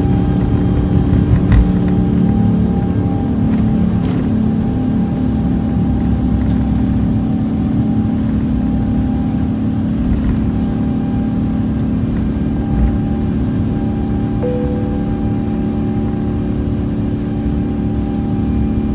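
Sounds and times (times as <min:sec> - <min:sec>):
jet engines at takeoff thrust: 0:00.0 - 0:18.9.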